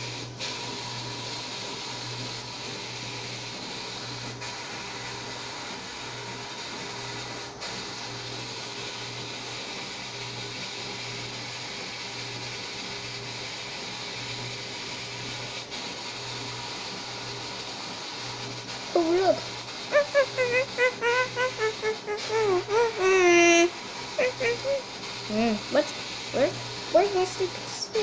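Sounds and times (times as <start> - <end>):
mechanical hum with hiss: 0.0 - 28.0.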